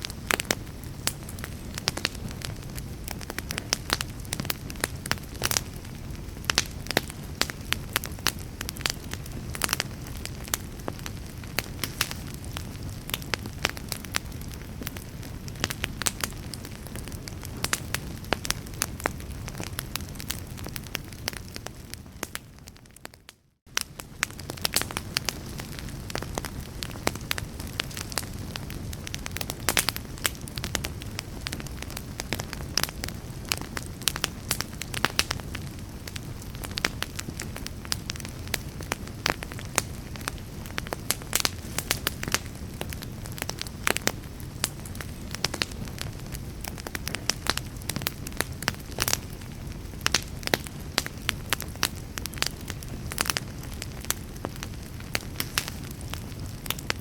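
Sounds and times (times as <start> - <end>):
fire crackles and pops: 0.0 - 57.0
low rumble of flames: 0.0 - 57.0.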